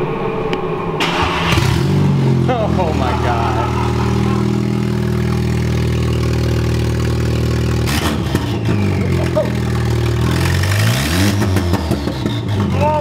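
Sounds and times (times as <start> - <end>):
car engine idling and revving: 1.0 - 13.0.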